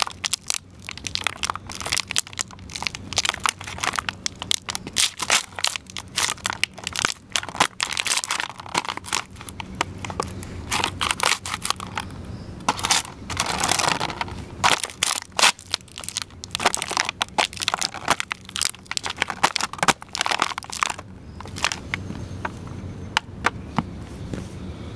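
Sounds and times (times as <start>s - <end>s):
boots crushing plastic containers: 0.0s - 22.5s.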